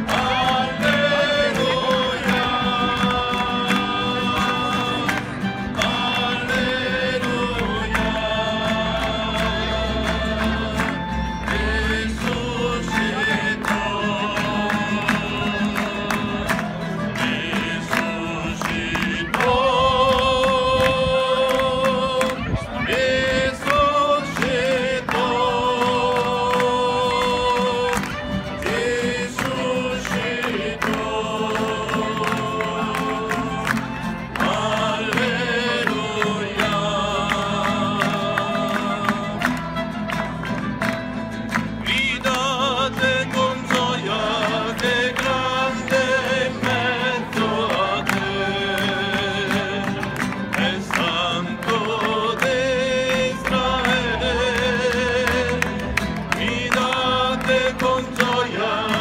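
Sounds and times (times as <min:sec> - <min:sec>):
people singing worship song: 0:00.0 - 0:39.4, 0:41.9 - 0:59.0
acoustic guitars strummed: 0:00.0 - 0:59.0.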